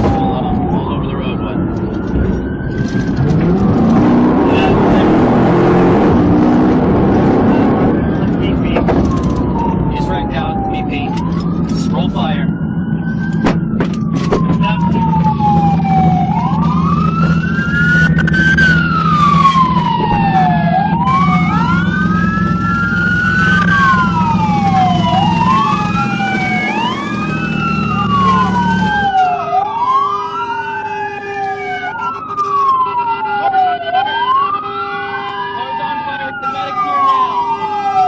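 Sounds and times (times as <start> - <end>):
police sirens wailing: 0.0 - 38.0.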